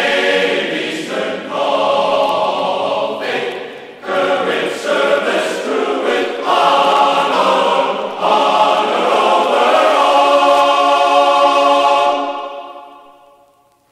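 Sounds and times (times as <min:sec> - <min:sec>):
choir singing held chords: 0:00.0 - 0:13.9.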